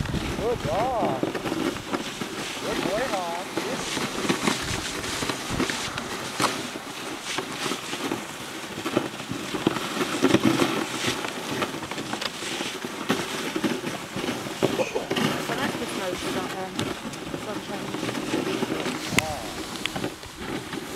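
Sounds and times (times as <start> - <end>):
sled runners scraping over snow: 0.0 - 20.9.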